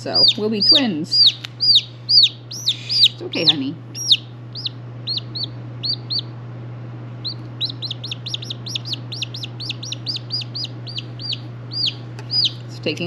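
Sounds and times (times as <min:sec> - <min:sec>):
chick peeping: 0:00.0 - 0:06.3, 0:07.2 - 0:12.7.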